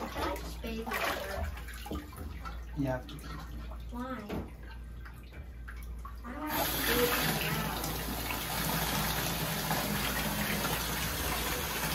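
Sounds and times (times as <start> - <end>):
water gushing into bathtub: 0.0 - 11.9.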